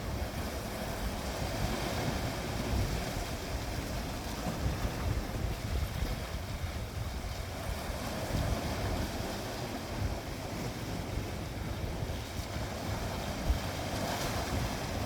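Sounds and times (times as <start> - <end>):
sea waves breaking: 0.0 - 15.0
wind rumbling on microphone: 0.0 - 15.0.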